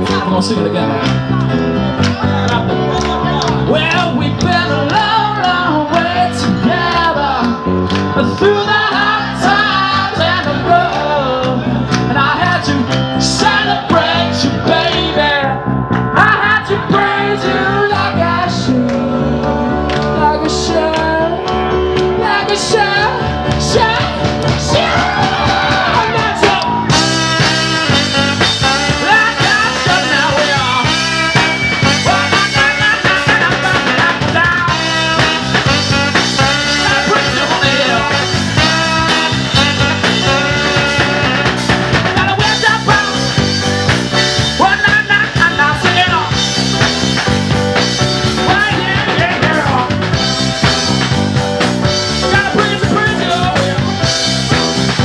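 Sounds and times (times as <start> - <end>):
live band playing upbeat music: 0.0 - 55.0.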